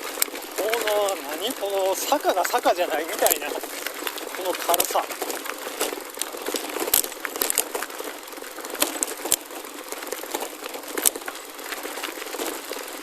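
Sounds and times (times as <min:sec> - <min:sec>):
bike tyres crunching on gravel: 0:00.0 - 0:13.0
stones clicking under tyres: 0:00.0 - 0:13.0.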